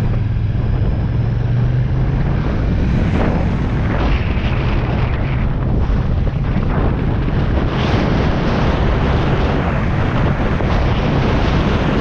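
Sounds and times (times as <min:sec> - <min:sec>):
motorcycle engine running: 0:00.0 - 0:12.0
wind rush on a helmet camera: 0:00.0 - 0:12.0.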